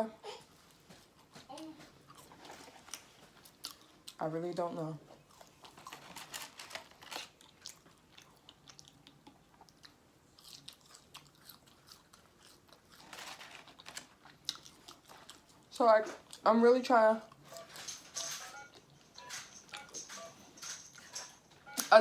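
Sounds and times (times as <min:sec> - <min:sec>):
person chewing food: 0:00.4 - 0:04.2, 0:05.0 - 0:16.4, 0:17.3 - 0:17.8, 0:18.5 - 0:22.0.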